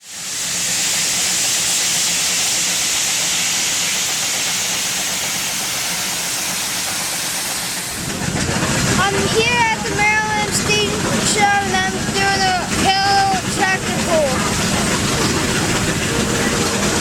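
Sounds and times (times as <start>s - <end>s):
steam venting hiss: 0.0s - 17.0s.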